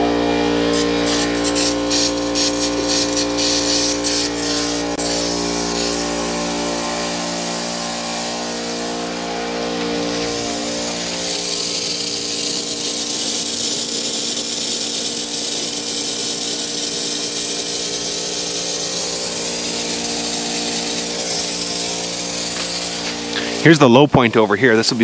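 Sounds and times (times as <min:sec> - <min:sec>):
air compressor running: 0:00.0 - 0:23.8
compressed air hissing from sprinkler: 0:00.6 - 0:23.8.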